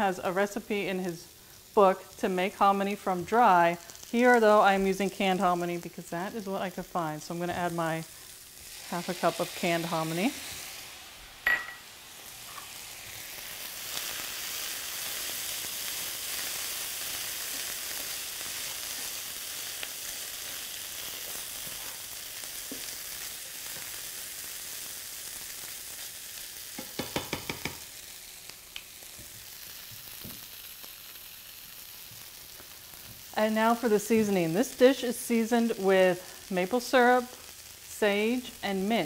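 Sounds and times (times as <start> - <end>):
vegetables sizzling in skillet: 0.0 - 39.0.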